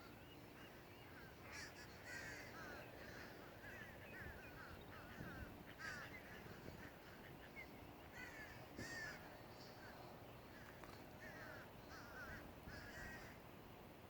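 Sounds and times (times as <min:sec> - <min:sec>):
faint crows cawing: 0:00.0 - 0:13.5.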